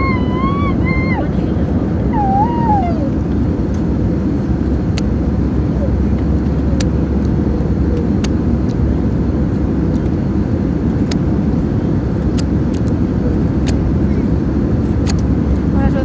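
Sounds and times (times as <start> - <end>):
airplane cabin engine rush: 0.0 - 16.0.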